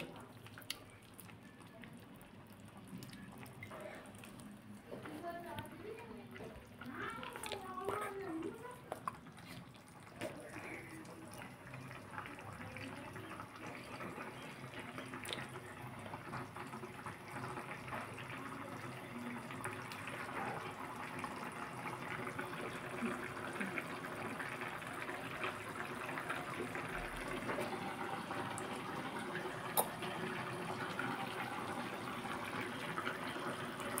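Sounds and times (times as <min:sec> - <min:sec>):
curry bubbling in a pan: 0:00.0 - 0:34.0.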